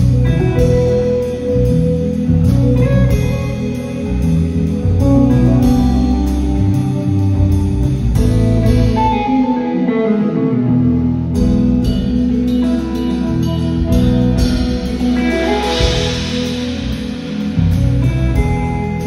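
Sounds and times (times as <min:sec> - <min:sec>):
drum kit: 0:00.0 - 0:09.9, 0:11.2 - 0:19.0
deep bass: 0:00.0 - 0:19.0
electric guitar melody: 0:00.0 - 0:19.0.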